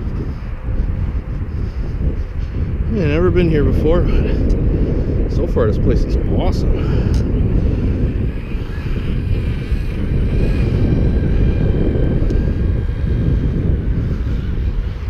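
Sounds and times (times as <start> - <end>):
air rushing over microphone: 0.0 - 15.0
drone propellers running: 0.0 - 15.0.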